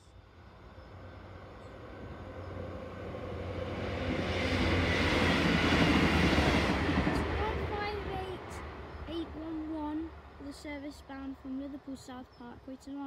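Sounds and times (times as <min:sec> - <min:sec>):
diesel train passing by: 0:00.0 - 0:13.0.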